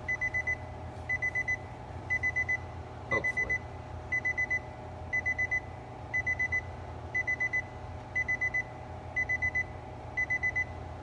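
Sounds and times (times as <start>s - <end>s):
steady low hum: 0.0s - 11.0s
car warning chime beeps: 0.1s - 10.7s.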